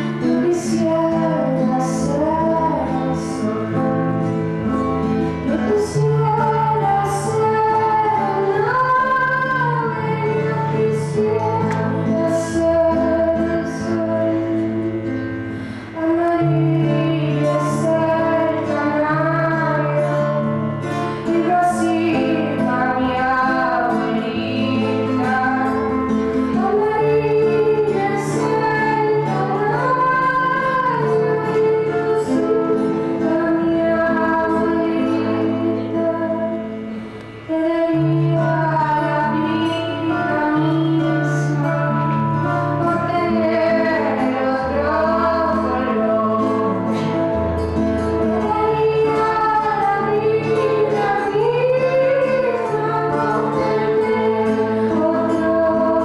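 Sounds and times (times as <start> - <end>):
guitar accompaniment: 0.0 - 56.0
woman singing: 0.0 - 56.0.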